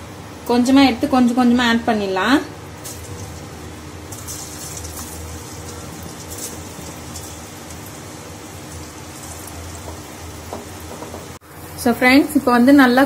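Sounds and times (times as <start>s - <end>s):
deep-frying sizzle and crackle: 2.4s - 13.0s.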